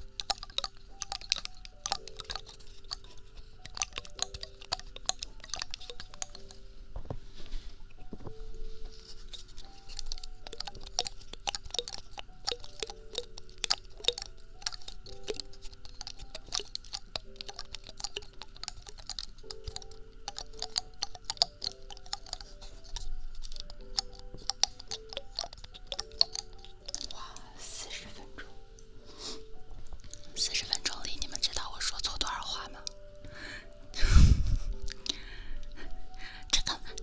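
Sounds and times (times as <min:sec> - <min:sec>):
small object clicking and tapping: 0:00.0 - 0:07.2, 0:07.9 - 0:27.6, 0:28.2 - 0:33.1
soft background music: 0:00.0 - 0:37.0.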